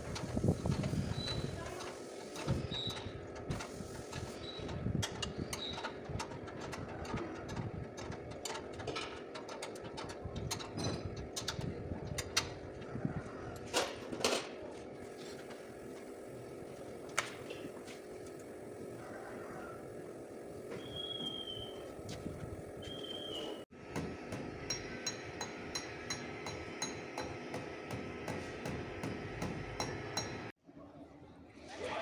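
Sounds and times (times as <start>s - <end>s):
steady mechanical hum: 0.0s - 30.6s.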